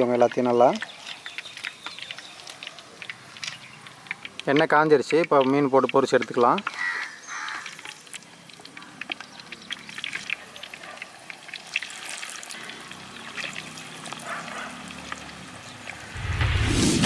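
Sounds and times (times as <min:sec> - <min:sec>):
fish deep-frying in sizzling oil: 0:00.0 - 0:16.9.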